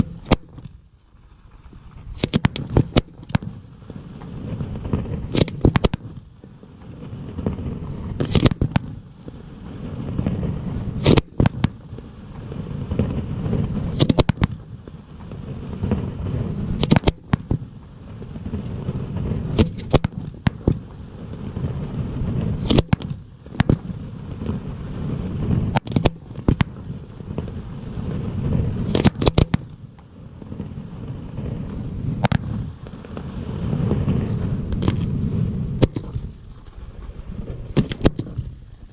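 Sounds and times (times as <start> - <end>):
firework shells bursting: 0.0 - 38.9
low rolling rumble: 0.0 - 38.9.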